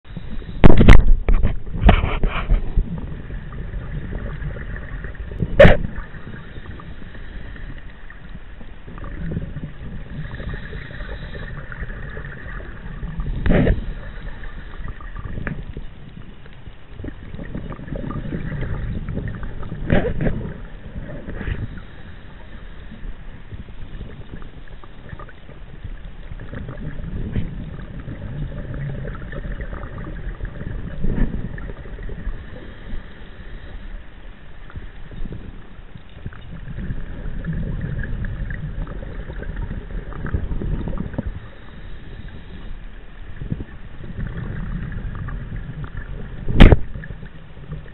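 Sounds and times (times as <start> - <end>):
muffled underwater rumble: 0.0 - 47.9
exhaled bubbles gushing: 0.1 - 23.0, 23.9 - 33.8, 34.7 - 42.6, 43.3 - 47.9.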